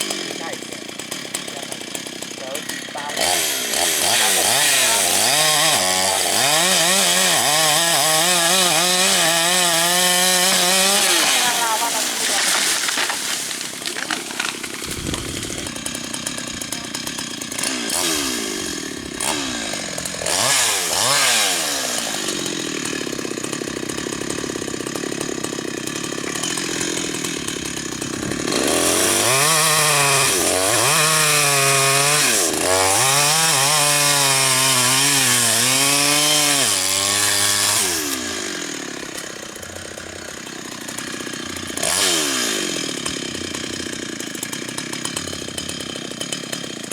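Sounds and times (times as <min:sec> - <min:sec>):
chainsaw cutting wood: 0:00.0 - 0:46.9
chainsaw engine revving: 0:00.0 - 0:46.9.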